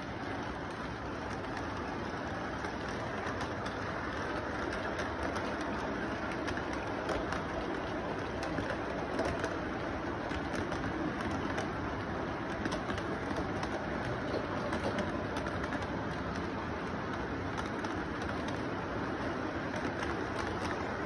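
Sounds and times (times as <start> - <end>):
model train rumbling on track: 0.0 - 21.0
wheels ticking over rail joints: 0.0 - 21.0.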